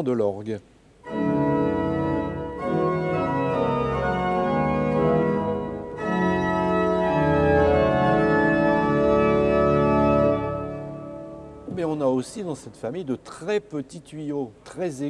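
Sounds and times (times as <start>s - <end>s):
pipe organ chords: 1.0s - 13.2s.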